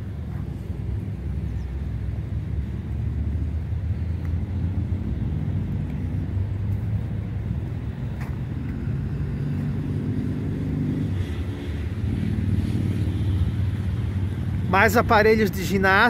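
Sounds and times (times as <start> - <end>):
car traffic rumble: 0.0 - 16.0
vehicle passing: 0.0 - 16.0.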